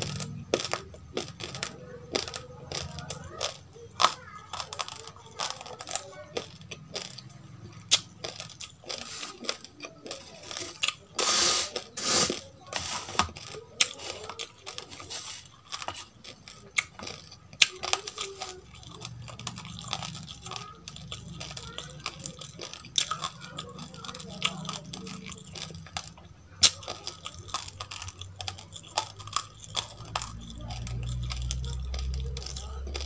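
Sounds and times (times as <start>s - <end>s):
chewing crunchy rice: 0.0s - 33.0s.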